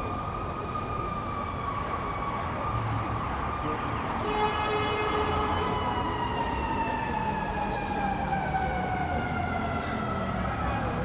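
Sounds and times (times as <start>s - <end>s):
city traffic hum: 0.0s - 11.0s
emergency vehicle siren: 0.0s - 11.0s.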